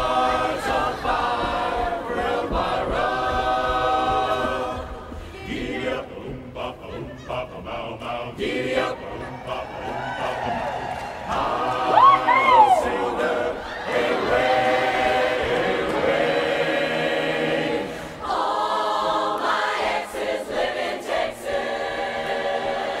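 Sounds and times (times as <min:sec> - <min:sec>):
large choir singing chords: 0:00.0 - 0:23.0.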